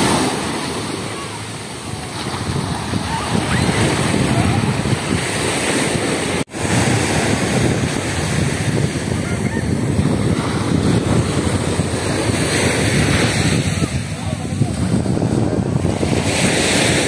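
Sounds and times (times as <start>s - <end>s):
surf breaking on a beach: 0.0s - 17.0s
wind buffeting microphone: 1.6s - 17.0s.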